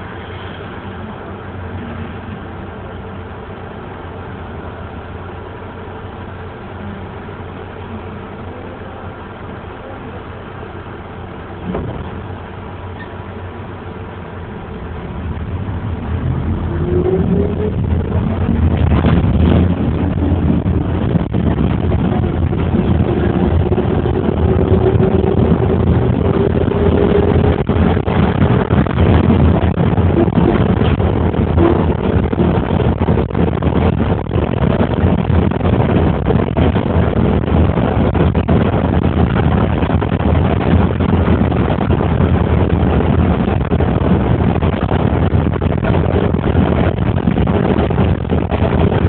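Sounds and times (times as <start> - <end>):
thin steady whine: 0.0 - 49.0
vehicle engine idling: 0.0 - 49.0.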